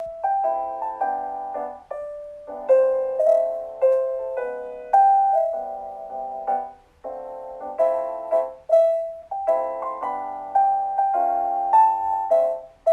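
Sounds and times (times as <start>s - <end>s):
gentle piano melody: 0.0s - 12.9s.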